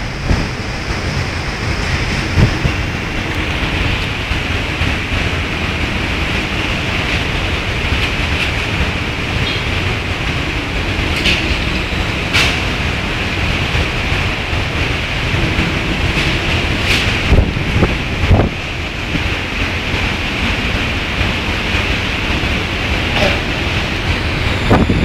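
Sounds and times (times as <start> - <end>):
heavy rain hissing: 0.0 - 25.0
wind buffeting microphone: 0.0 - 25.0.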